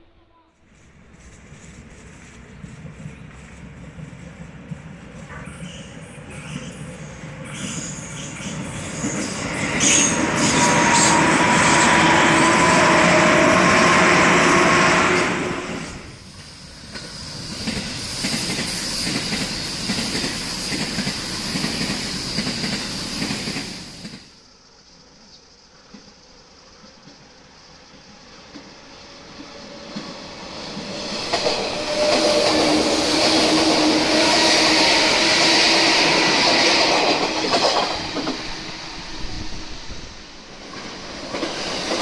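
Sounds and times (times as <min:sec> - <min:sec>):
electric train passing: 0:00.0 - 0:24.5, 0:25.9 - 0:42.0
high train whine: 0:00.0 - 0:25.2, 0:25.9 - 0:42.0
train wheels rumbling on rails: 0:00.6 - 0:24.4, 0:26.9 - 0:42.0.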